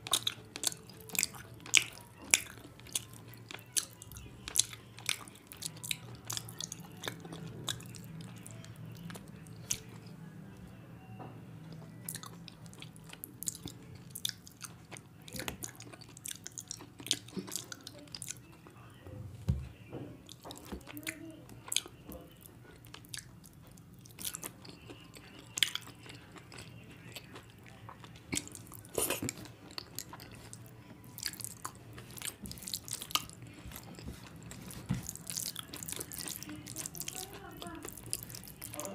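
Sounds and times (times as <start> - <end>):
person chewing food: 0.0 - 10.2, 11.6 - 18.8, 20.2 - 38.9
faint low hum: 0.0 - 38.9.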